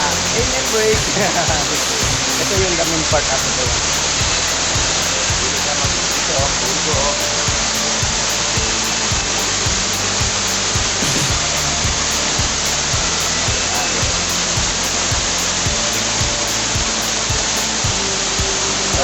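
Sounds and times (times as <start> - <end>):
music with beat and bass: 0.0 - 19.0
waterfall rushing: 0.0 - 19.0.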